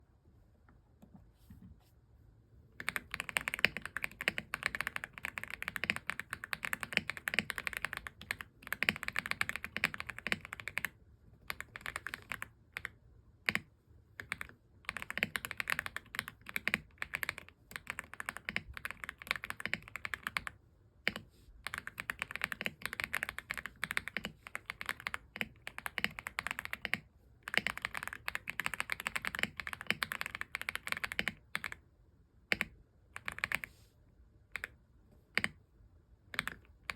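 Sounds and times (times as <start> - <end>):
mechanical keyboard typing: 2.8 - 31.8, 32.5 - 33.7, 34.5 - 34.8, 35.4 - 35.6, 36.3 - 36.9.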